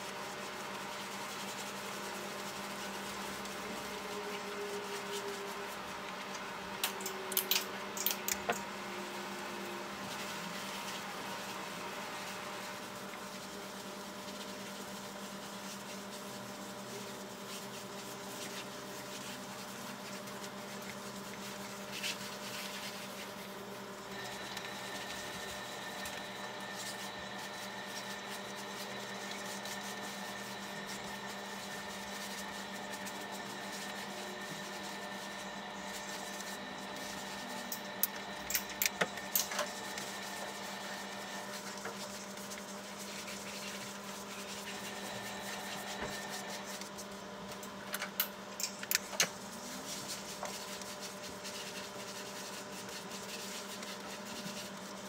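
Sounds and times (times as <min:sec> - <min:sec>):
machine hum with held tones: 0:00.0 - 0:55.0.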